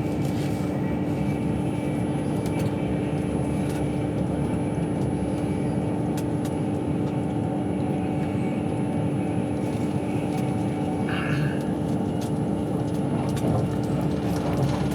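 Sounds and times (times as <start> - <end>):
constant hum: 0.0 - 14.9
train rumble inside carriage: 0.0 - 14.9.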